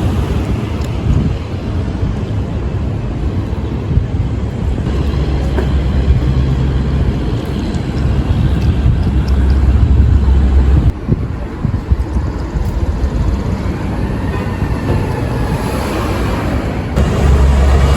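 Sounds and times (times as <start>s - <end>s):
train rumbling: 0.0s - 17.9s.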